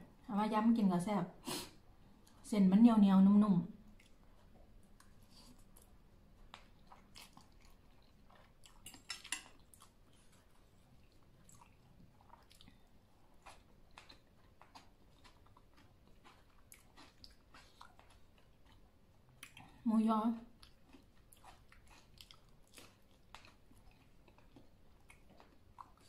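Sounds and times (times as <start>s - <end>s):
chewing noodles: 3.8s - 19.8s, 20.5s - 26.0s.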